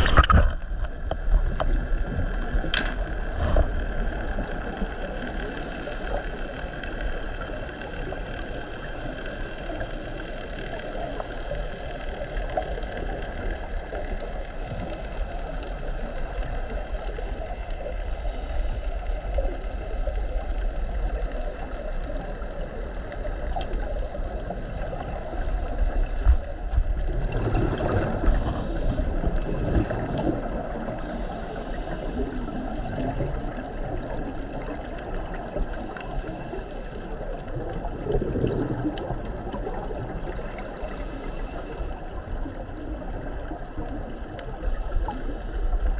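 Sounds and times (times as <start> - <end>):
diver's regulator bubbles gurgling: 0.0 - 45.9
muffled underwater rumble: 0.0 - 45.9.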